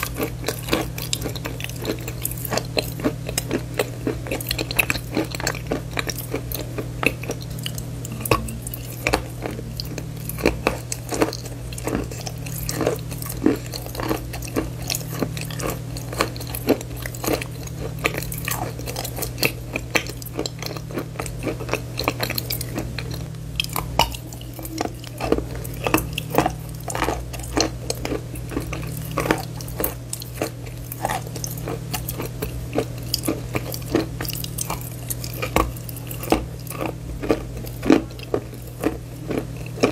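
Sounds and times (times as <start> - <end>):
chewing and crunching chalk: 0.0 - 39.9
steady low hum: 0.0 - 39.9.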